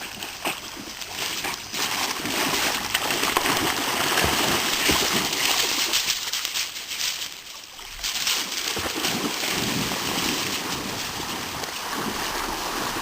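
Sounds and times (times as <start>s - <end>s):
dogs splashing in water: 0.0s - 7.3s, 8.0s - 13.0s.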